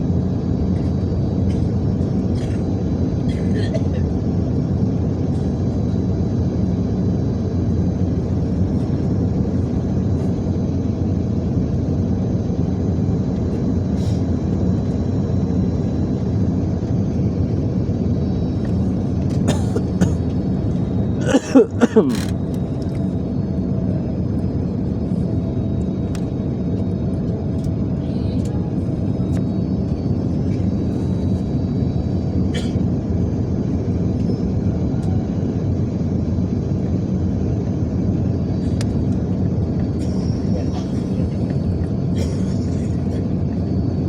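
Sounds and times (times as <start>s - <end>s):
airliner cabin rumble: 0.0s - 44.0s.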